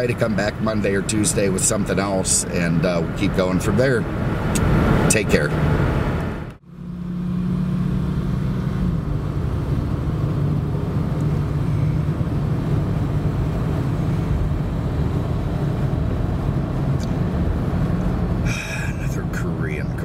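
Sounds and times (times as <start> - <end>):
car engine and tyre drone: 0.0 - 20.0.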